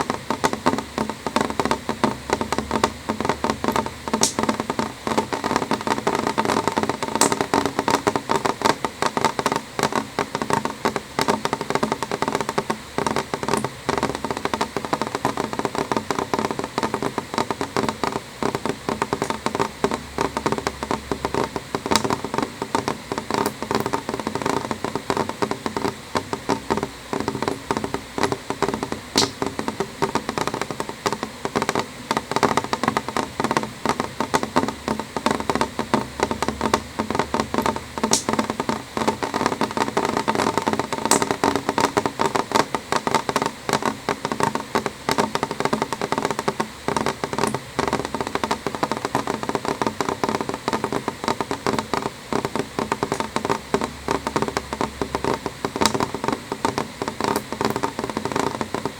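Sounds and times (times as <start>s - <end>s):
rain tapping on window glass: 0.0s - 58.9s.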